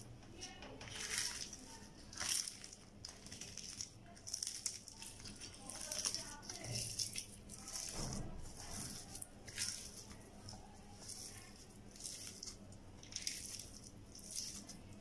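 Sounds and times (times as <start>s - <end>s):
hands squishing potato: 0.0s - 15.0s.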